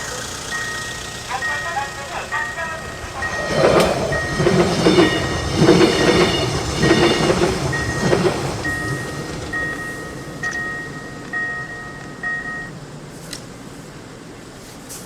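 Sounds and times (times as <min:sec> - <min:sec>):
crossing warning signal beeping: 0:00.0 - 0:13.0
train wheels clattering: 0:00.0 - 0:13.6.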